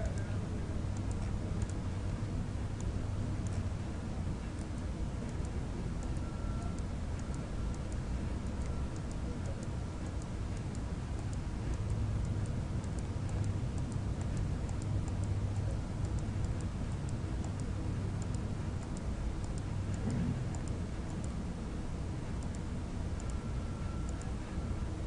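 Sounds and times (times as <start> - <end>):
computer mouse clicks: 0.0 - 1.8, 4.6 - 21.4, 22.3 - 24.4
steady low hum: 0.0 - 25.0.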